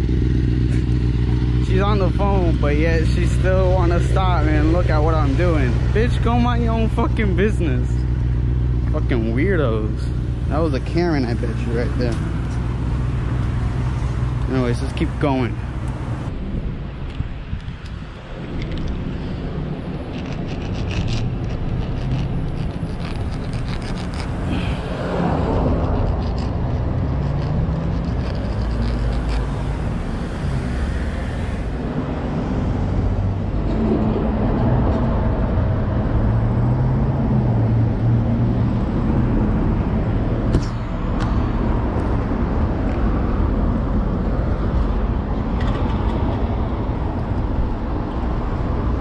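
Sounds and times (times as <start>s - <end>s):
cars passing on street: 0.0s - 49.0s.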